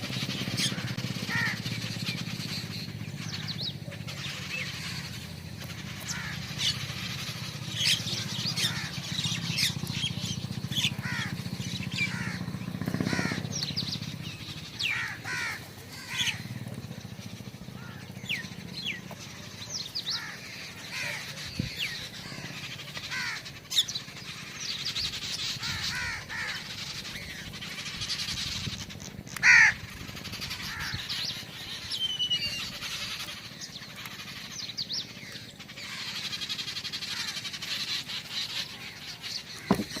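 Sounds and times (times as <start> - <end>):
birds chirping and calling: 0.0 - 40.0
loud harsh bird call: 0.0 - 40.0.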